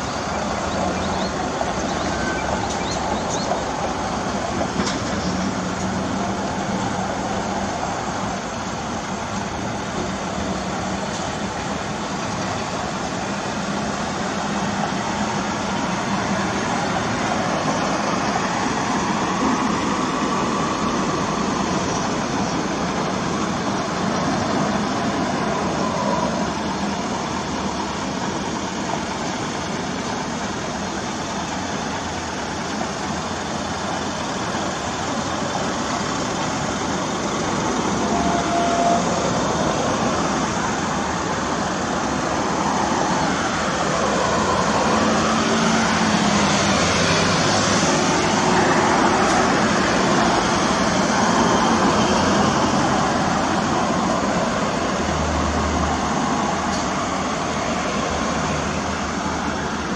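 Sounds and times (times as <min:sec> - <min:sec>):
trucks driving past: 0:00.0 - 0:59.9.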